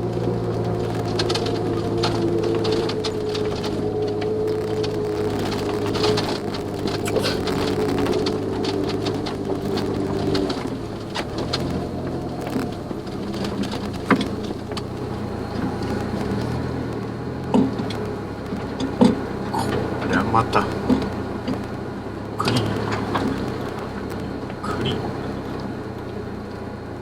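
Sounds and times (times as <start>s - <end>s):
car engine running: 0.0s - 27.0s
knocks and rattles: 0.0s - 27.0s.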